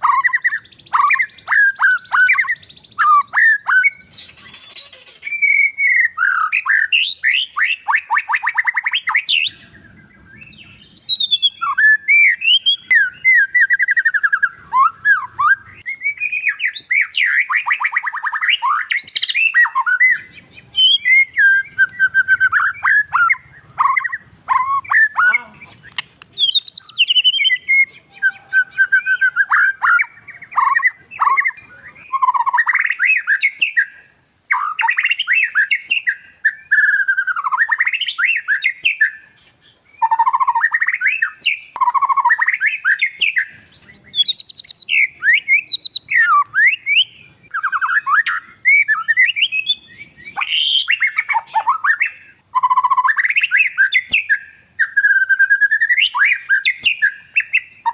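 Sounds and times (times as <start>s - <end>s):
bird singing trills and whistles: 0.0s - 57.9s.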